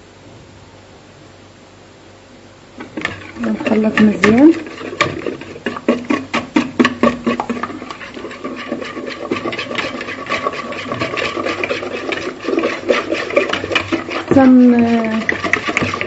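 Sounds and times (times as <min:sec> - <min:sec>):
whisk beating batter in bowl: 0:02.8 - 0:16.0.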